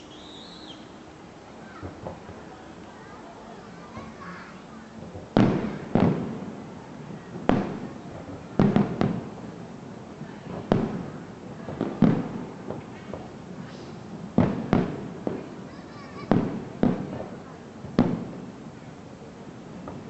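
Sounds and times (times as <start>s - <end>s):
fireworks bursting with sharp bangs: 1.7s - 2.6s, 3.7s - 18.8s, 19.7s - 20.0s.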